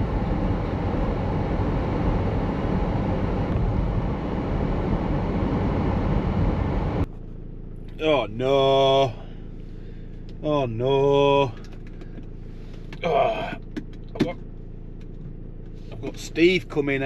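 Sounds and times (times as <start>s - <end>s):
vehicle road and wind rumble: 0.0s - 17.0s.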